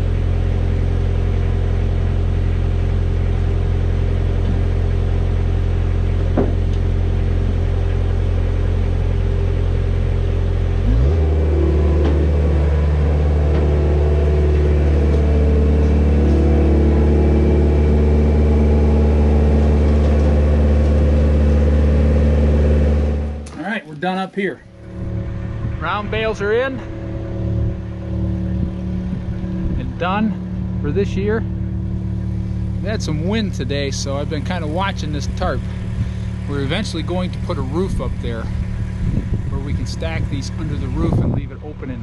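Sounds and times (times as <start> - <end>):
skid steer engine revving: 0.0 - 23.8, 24.6 - 42.0.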